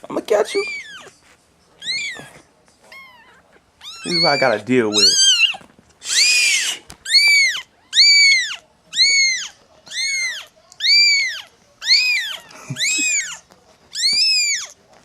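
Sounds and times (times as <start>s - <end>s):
kittens meowing: 0.3s - 1.2s, 1.8s - 14.8s.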